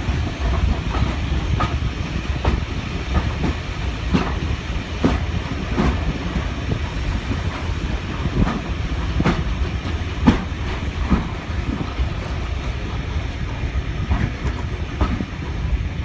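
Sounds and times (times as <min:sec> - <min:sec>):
train rumbling on track: 0:00.0 - 0:16.0
wheels clicking over rail joints: 0:00.0 - 0:16.0.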